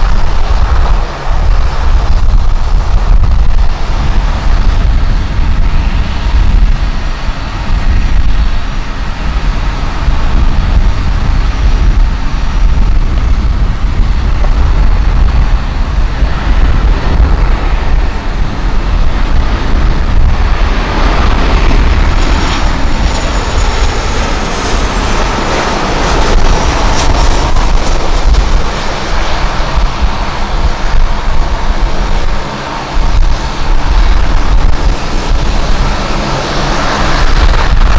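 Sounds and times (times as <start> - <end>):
high engine whine: 0.0 - 37.9
jet airliner flying past: 0.0 - 37.9
strong wind on microphone: 0.0 - 37.9.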